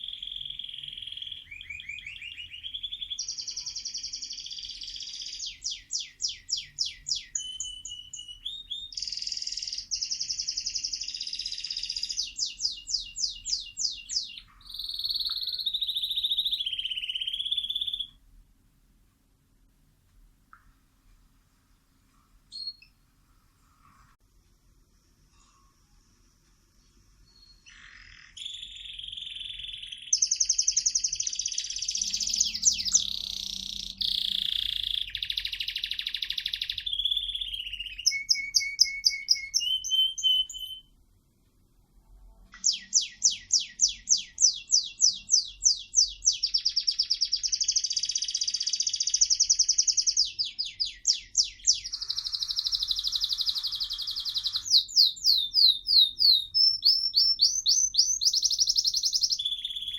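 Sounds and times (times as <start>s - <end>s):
songbird singing trills: 0.0s - 18.2s, 27.3s - 40.9s, 42.6s - 59.9s.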